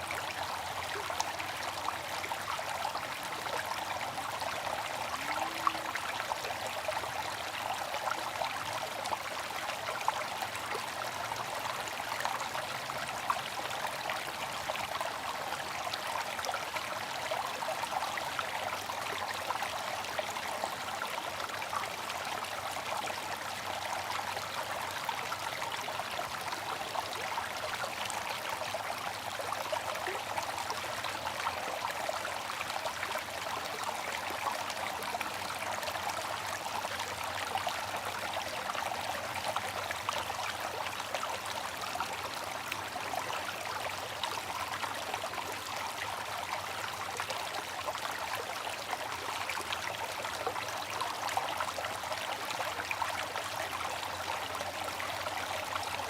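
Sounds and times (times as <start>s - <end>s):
fountain water trickling: 0.0s - 56.0s.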